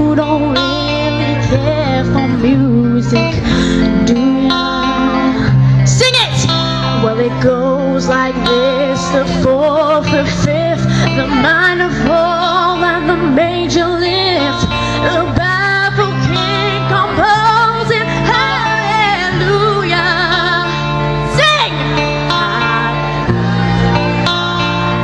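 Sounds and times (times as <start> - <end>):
woman singing into microphone: 0.0 - 23.4
amplified pop backing music: 0.0 - 25.0.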